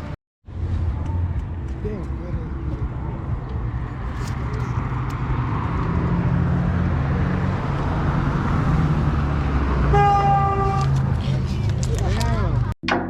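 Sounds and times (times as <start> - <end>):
car engine rumbling: 0.5 - 12.8.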